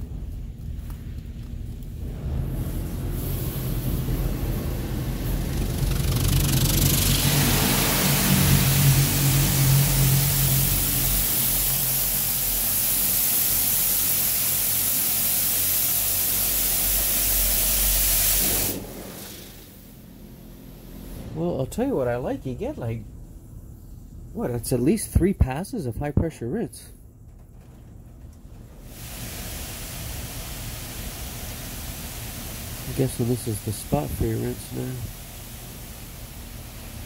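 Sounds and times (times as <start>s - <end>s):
water jets spraying car: 0.0s - 22.9s, 28.6s - 37.0s
steady low hum: 0.0s - 37.0s.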